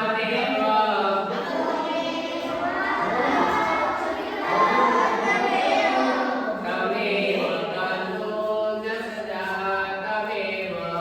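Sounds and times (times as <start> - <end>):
children singing in unison: 0.0 - 10.1.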